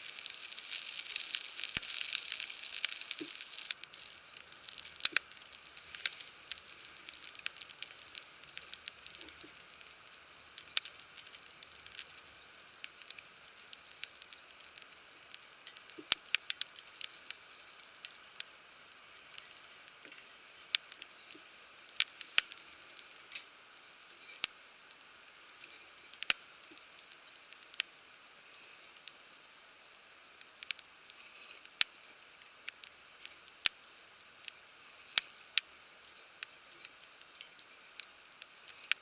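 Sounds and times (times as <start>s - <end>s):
faint steady hiss: 0.0s - 39.0s
wood fire crackling and popping: 0.0s - 39.0s.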